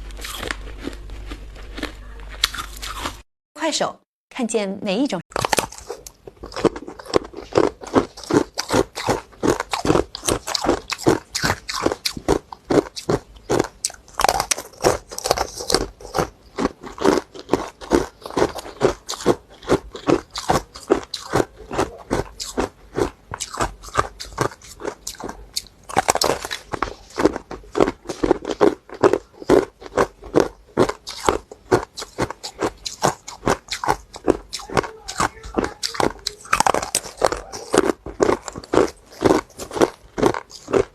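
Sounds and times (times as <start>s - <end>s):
ice being chewed: 0.0s - 3.2s, 5.3s - 40.9s.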